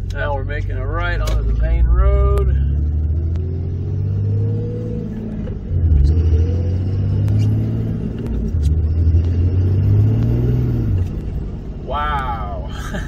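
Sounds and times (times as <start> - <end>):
diesel engine accelerating: 0.0 - 13.0.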